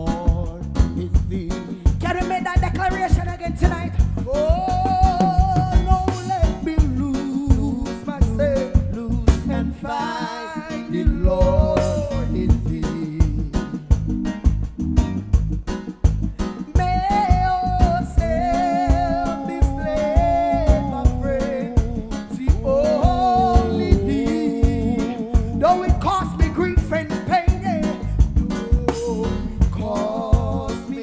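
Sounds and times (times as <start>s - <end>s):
live reggae band playing: 0.0s - 31.0s
drum and cymbal hits: 1.2s - 9.5s, 11.1s - 30.8s.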